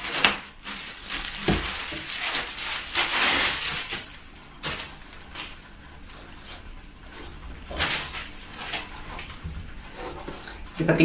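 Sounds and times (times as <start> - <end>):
plastic wrapping crinkling: 0.0 - 10.6.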